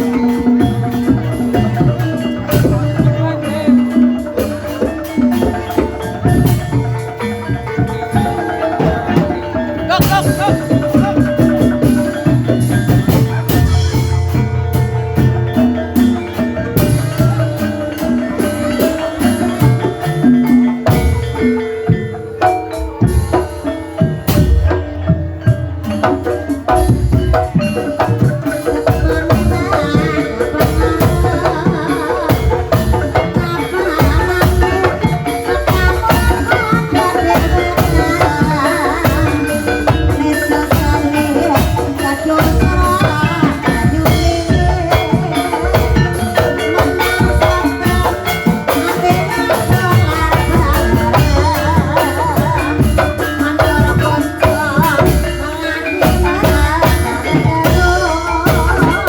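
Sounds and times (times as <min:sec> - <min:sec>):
fast drumming: 0:00.0 - 0:59.0
ringing metal-keyed instruments: 0:00.0 - 0:59.0.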